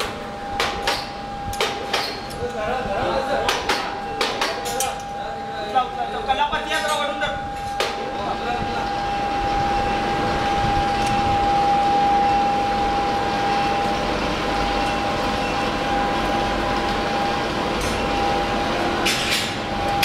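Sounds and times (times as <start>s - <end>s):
industrial machinery humming: 0.0s - 20.0s.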